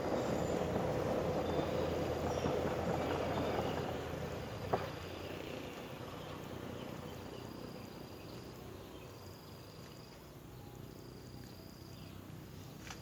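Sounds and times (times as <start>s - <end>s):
insects chirring: 0.1s - 13.0s.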